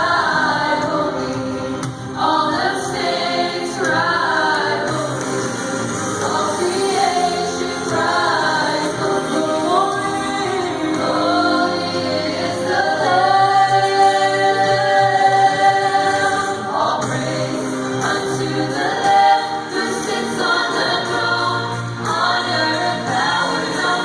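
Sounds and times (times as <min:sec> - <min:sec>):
choir singing in harmony: 0:00.0 - 0:24.0.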